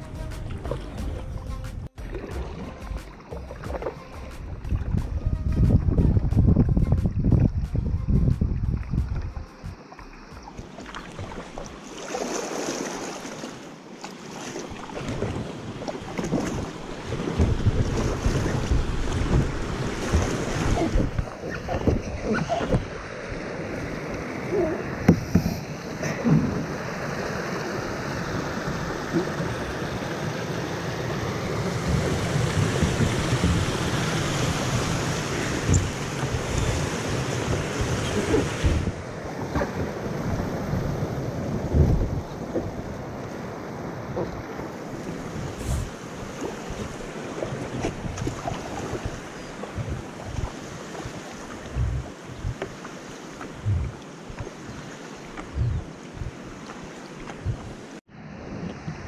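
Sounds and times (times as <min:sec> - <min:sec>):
wind on microphone: 0:00.0 - 0:11.5, 0:16.2 - 0:26.8, 0:31.2 - 0:59.0
rushing river water: 0:00.0 - 0:59.0
water splashing against hull: 0:00.0 - 0:59.0.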